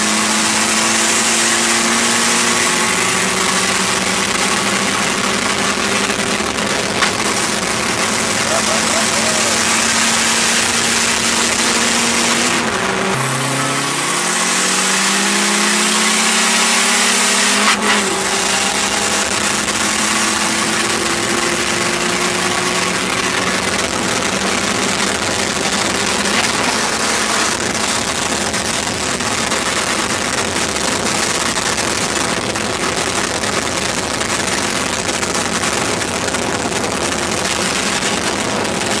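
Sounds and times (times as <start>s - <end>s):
car engine pulling hard: 0.0s - 39.0s
wind and road noise: 0.0s - 39.0s.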